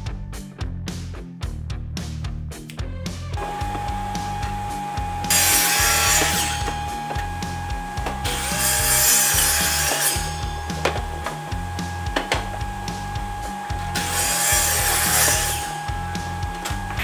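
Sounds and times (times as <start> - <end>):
miter saw cutting wood: 3.4 - 17.0.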